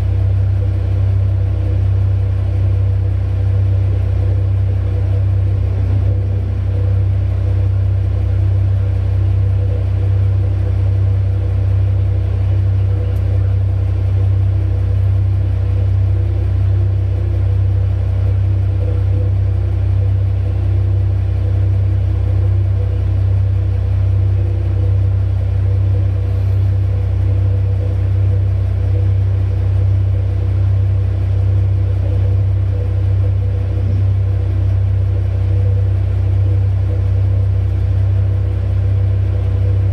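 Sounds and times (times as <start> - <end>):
heavy diesel engines rumbling: 0.0 - 39.9.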